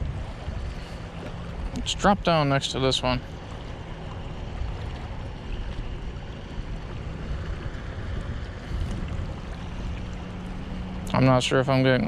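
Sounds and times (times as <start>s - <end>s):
water noise: 0.0s - 12.0s
wind buffeting microphone: 0.0s - 12.0s.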